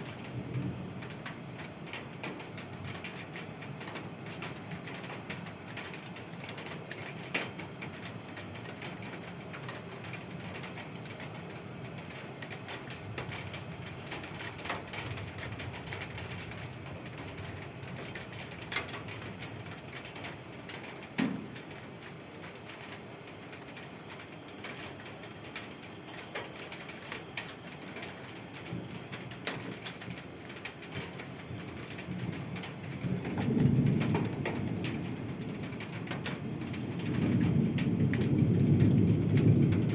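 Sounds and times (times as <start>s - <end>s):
low rumble of thunder: 0.0s - 11.3s, 11.9s - 22.9s, 23.5s - 39.9s
steady rain: 0.0s - 39.9s.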